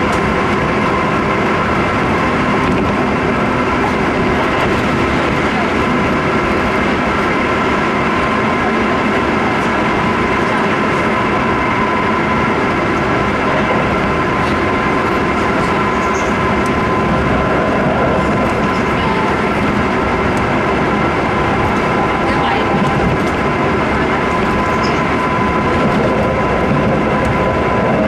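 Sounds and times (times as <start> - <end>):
wheels rumbling on rails: 0.0 - 28.0.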